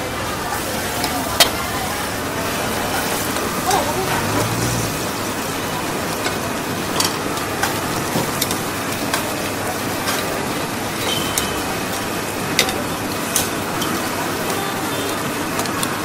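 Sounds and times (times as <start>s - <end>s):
food sizzling in hot oil: 0.1s - 16.0s.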